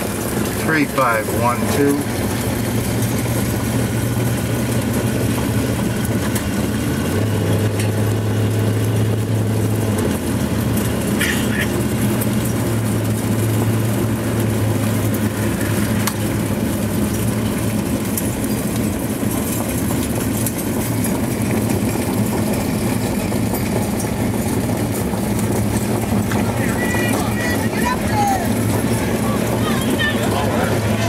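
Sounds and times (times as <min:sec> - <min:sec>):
car engine low hum: 0:00.0 - 0:31.0
road and wind noise: 0:00.0 - 0:31.0.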